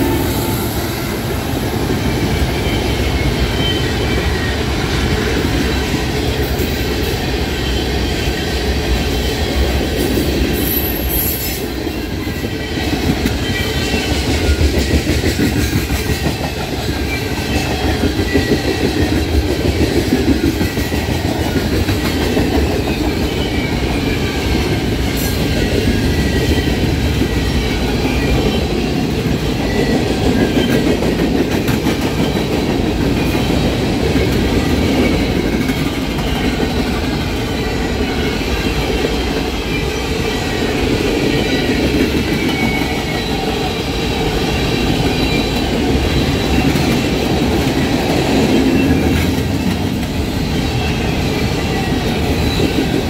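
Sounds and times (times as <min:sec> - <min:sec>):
freight train wheels rumbling: 0:00.0 - 0:53.0
train clickety-clack: 0:00.0 - 0:53.0.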